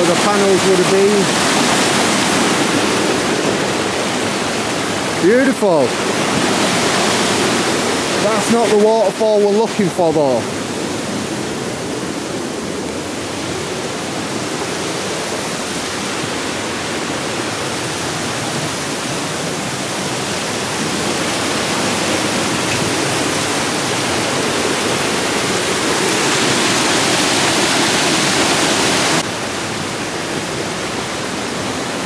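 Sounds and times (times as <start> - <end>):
river water rushing over waterfall: 0.0 - 32.0.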